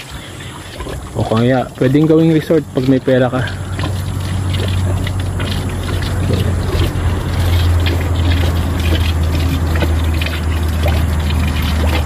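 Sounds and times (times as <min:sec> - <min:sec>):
running water rushing and splashing: 0:00.0 - 0:12.0.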